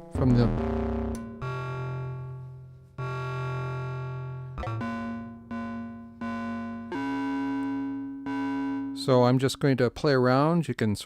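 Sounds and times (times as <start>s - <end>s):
synth notes: 0.0s - 9.9s.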